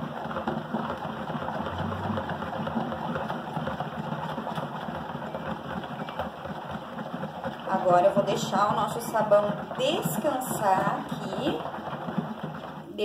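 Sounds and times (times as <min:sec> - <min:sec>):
liquid soap sloshing: 0:00.0 - 0:13.0.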